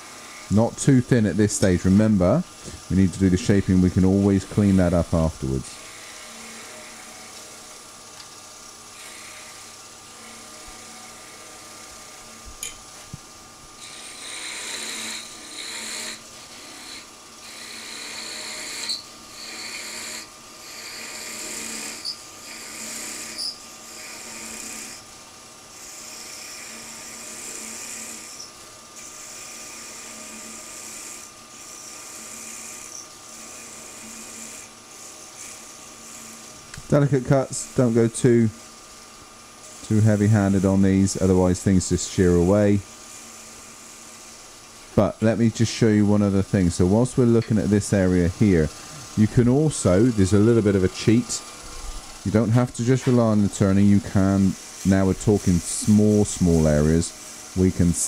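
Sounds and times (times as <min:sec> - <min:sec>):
chisel cutting hissing bursts: 0:00.0 - 0:12.4, 0:13.8 - 0:58.0
wood lathe motor hum: 0:00.0 - 0:58.0.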